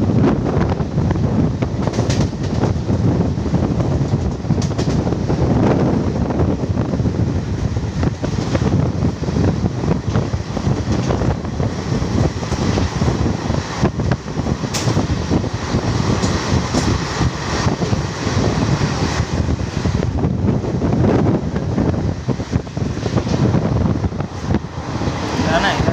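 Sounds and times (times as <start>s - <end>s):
train wheels rumbling on rails: 0.0s - 25.9s
wind buffeting microphone: 0.0s - 25.9s
rail clicks: 0.4s - 25.9s.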